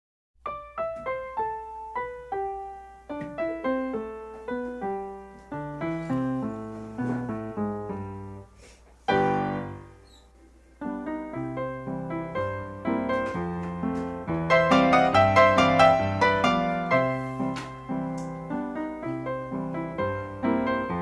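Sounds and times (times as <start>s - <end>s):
solo piano melody: 0.4s - 21.0s.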